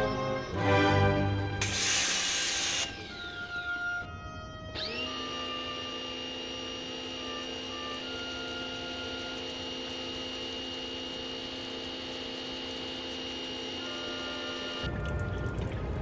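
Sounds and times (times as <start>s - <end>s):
pressure washer motor whine: 1.3s - 14.9s.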